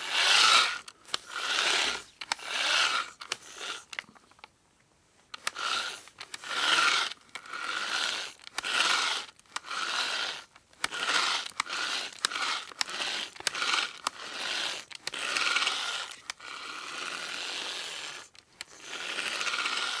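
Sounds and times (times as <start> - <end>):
hand drill cranking: 0.0 - 4.1, 5.4 - 20.0.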